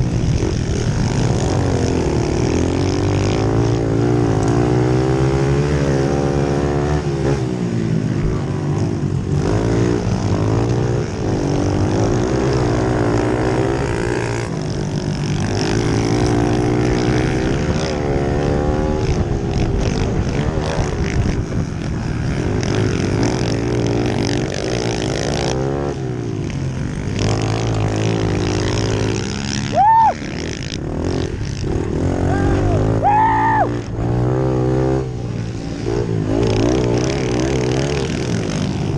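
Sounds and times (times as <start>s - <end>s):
pit bike engines racing: 0.0s - 38.9s.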